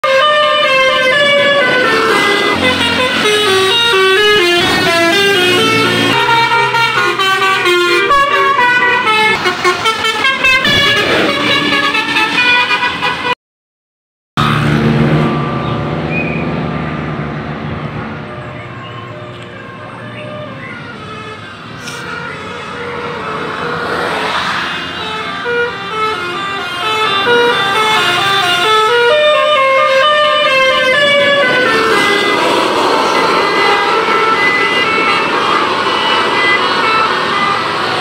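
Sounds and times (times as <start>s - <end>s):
multi-tone bus horn melody: 0.0s - 13.4s, 14.4s - 16.4s, 18.1s - 38.0s.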